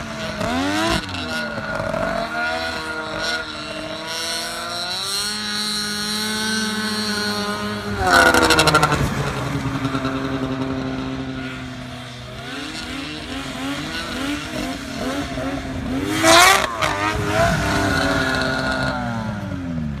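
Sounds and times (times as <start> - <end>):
snowmobile engines revving: 0.0 - 20.0.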